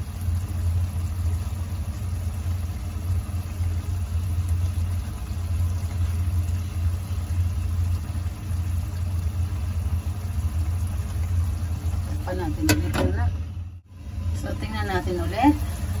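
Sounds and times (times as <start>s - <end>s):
kitchen fan humming: 0.0s - 16.0s
sauce bubbling in wok: 0.0s - 16.0s.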